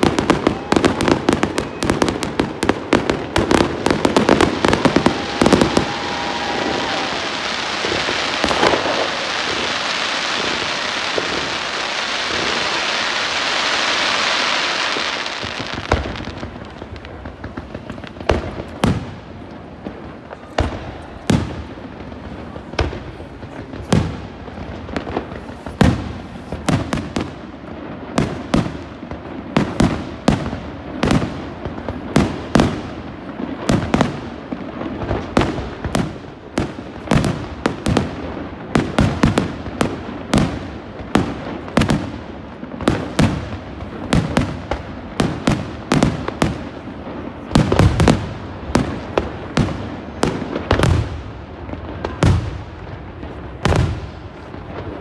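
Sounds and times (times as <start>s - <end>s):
deep fireworks booms: 0.0s - 55.0s
fireworks bursting with sharp bangs: 0.0s - 55.0s.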